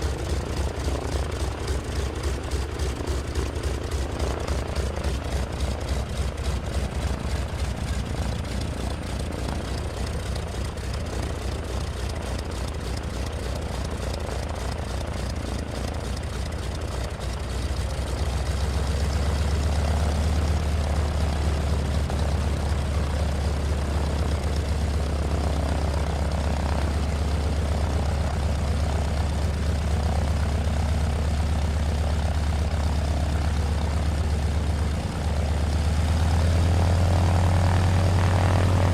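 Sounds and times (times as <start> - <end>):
helicopter rotor chopping: 0.0 - 17.6, 21.2 - 38.9.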